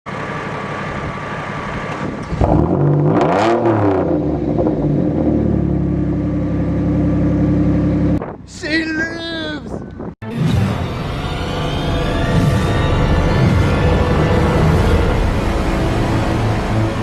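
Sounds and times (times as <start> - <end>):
car engine revving and idling: 0.1 - 8.2, 10.4 - 17.0.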